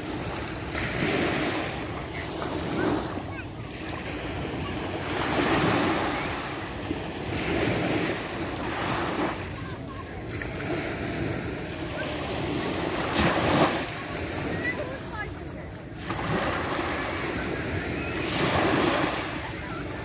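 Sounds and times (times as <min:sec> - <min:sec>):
waves breaking on sandy beach: 0:00.0 - 0:20.0.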